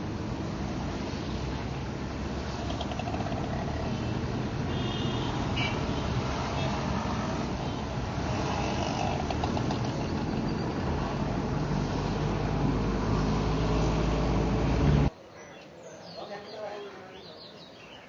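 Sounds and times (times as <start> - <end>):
car and motorcycle engines rumbling: 0.0 - 15.1
tyre noise on wet road: 0.0 - 15.1.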